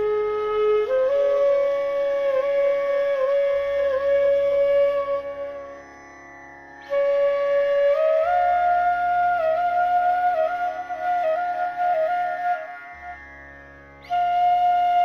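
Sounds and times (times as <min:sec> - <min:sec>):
ornamented flute melody: 0:00.0 - 0:15.0.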